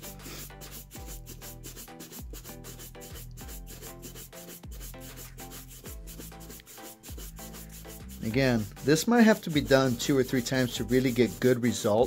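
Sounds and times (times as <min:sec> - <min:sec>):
background music with steady beat: 0:00.0 - 0:12.0
shoe brush buffing leather: 0:00.0 - 0:12.0.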